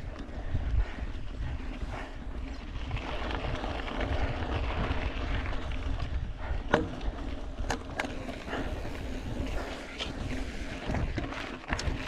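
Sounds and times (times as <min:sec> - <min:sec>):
bike rattling over bumps: 0:00.0 - 0:12.0
bike tyres rolling on dirt: 0:00.0 - 0:12.0
wind rumbling on microphone: 0:00.0 - 0:12.0.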